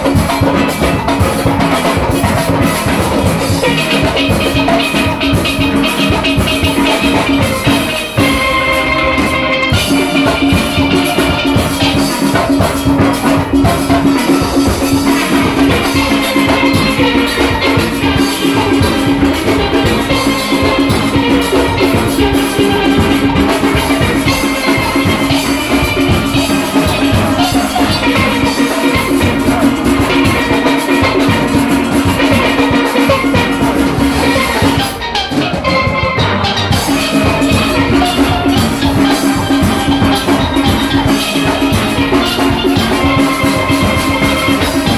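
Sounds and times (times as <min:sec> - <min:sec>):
drum kit and percussion rhythm: 0:00.0 - 0:44.9
steel pans playing melody: 0:00.0 - 0:44.9.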